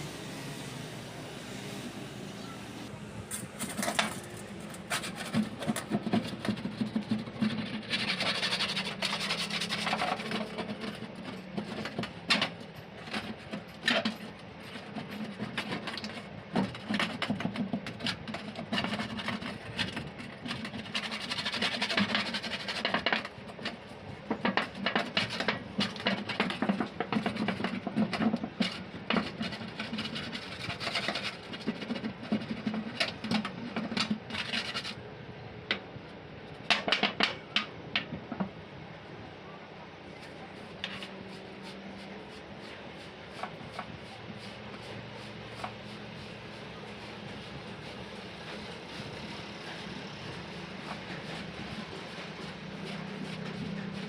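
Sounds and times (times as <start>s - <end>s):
hand tools clicking and scraping: 3.3s - 35.0s, 40.2s - 54.0s.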